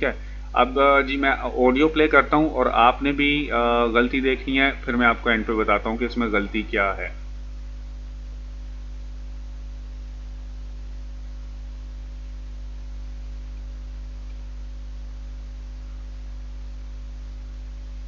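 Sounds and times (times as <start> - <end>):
electrical mains hum: 0.0 - 18.0
light hiss: 0.0 - 18.0.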